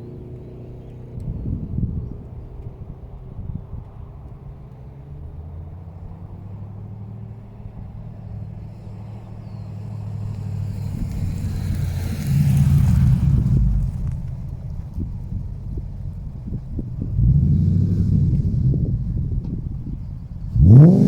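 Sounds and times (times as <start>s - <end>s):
car exhaust rumble: 0.0s - 21.0s.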